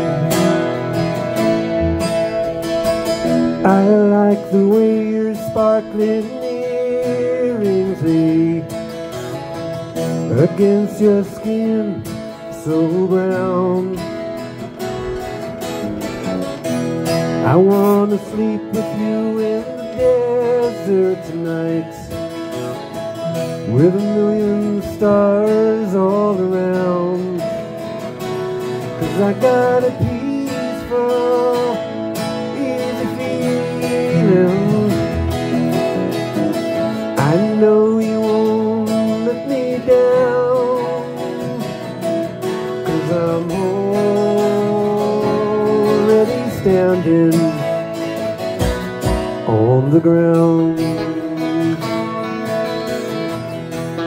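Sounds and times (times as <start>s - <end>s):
country-rock band playing live: 0.0s - 54.0s.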